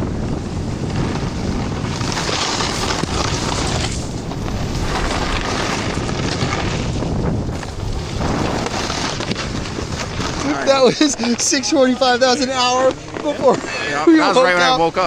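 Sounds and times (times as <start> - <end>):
wind rushing over microphone: 0.0 - 12.2
snowboard sliding through powder snow: 0.0 - 12.4.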